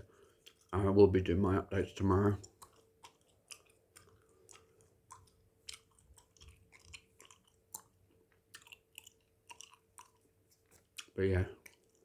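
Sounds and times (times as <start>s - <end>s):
mouth chewing bubblegum: 0.0s - 0.8s, 2.1s - 12.0s.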